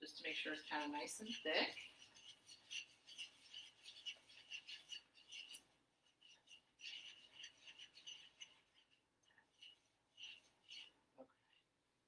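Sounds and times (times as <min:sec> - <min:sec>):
utensil scraping a saucepan: 0:00.0 - 0:11.7.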